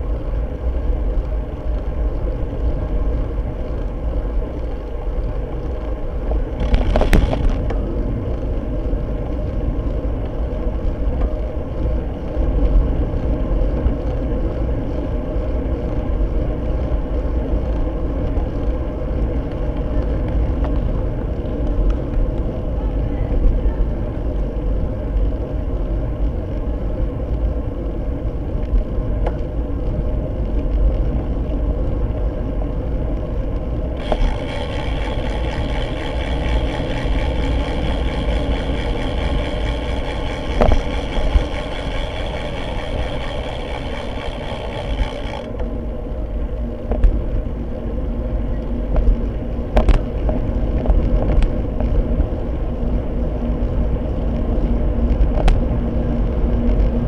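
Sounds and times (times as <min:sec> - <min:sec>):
bicycle tyre and road noise: 0:00.0 - 0:57.0
wind rumbling on microphone: 0:00.0 - 0:57.0.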